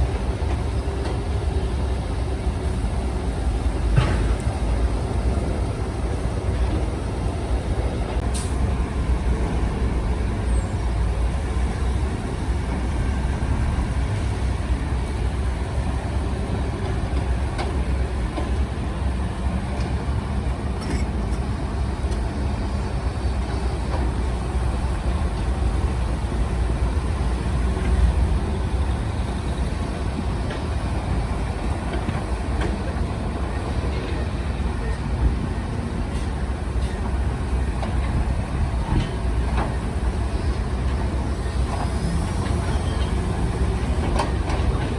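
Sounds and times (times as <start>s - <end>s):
diesel engine rumble: 0.0s - 44.9s.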